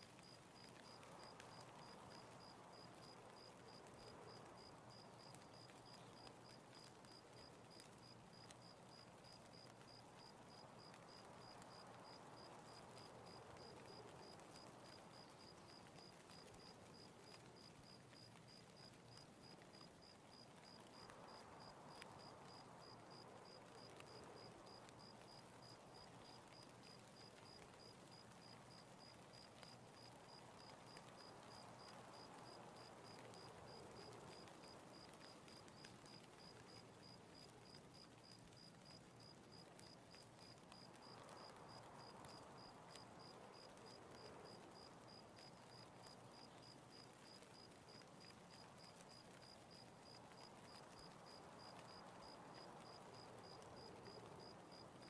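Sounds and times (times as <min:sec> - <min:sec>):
faint room hiss: 0:00.0 - 0:55.0.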